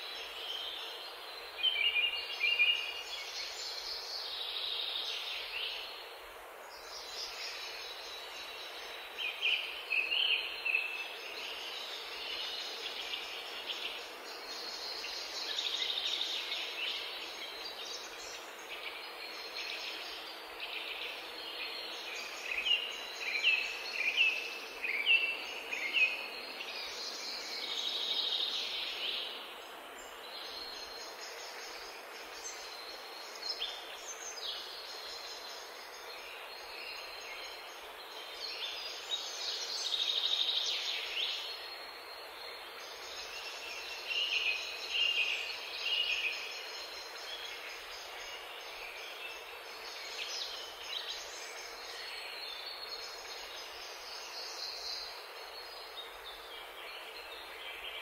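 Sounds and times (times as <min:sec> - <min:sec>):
background hiss: 0:00.0 - 0:58.0
small birds singing: 0:00.0 - 0:58.0.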